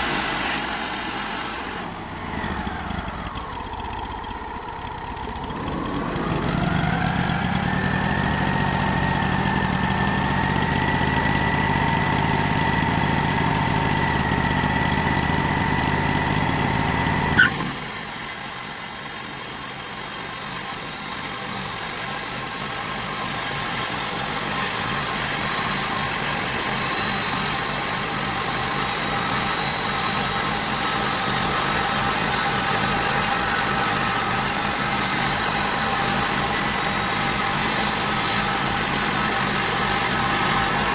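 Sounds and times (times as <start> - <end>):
bandsaw sawmill running: 0.0 - 40.9.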